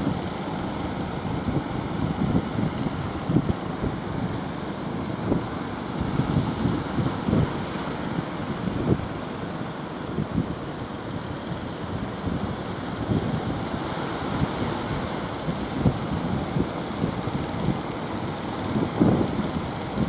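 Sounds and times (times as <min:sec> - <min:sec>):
breaking surf: 0:00.0 - 0:20.0
wind buffeting microphone: 0:00.0 - 0:20.0.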